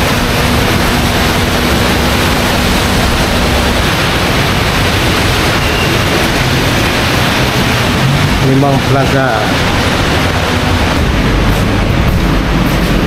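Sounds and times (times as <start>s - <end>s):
low engine rumble: 0.0s - 13.0s
vehicle rushing noise: 0.0s - 13.0s.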